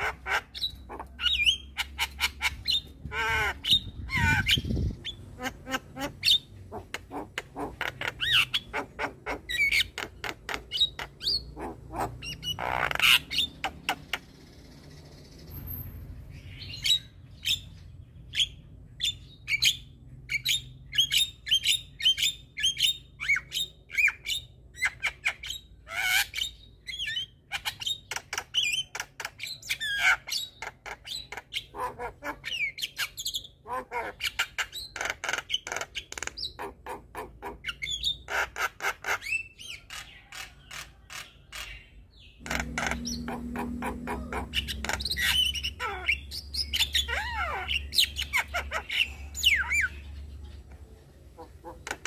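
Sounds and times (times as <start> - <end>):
myna chirping and squawking: 0.0 - 52.0.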